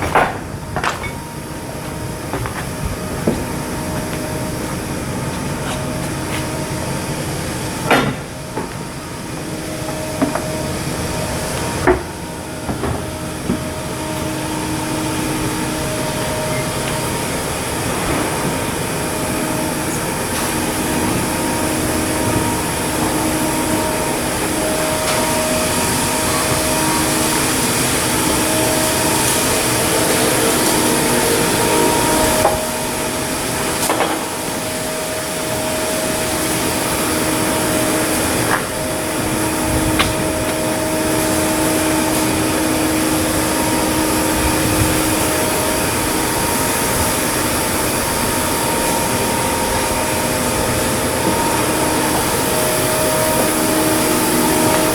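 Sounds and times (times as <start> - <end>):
machinery rush and hum: 0.0 - 54.9.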